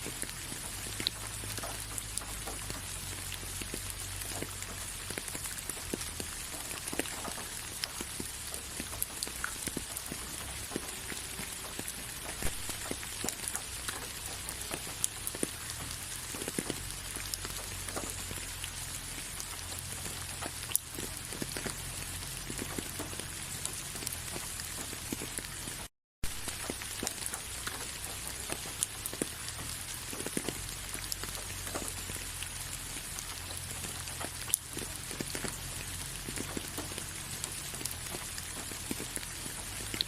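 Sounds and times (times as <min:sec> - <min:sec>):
rain pattering on a surface: 0:00.0 - 0:40.0.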